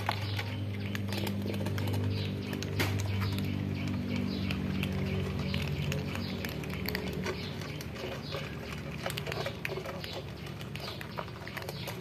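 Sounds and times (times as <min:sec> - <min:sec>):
cats crunching dry kibble: 0:00.0 - 0:12.0.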